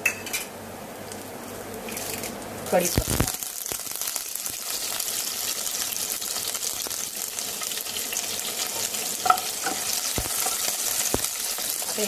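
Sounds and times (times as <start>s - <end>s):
spices sizzling in hot oil: 1.1s - 12.0s.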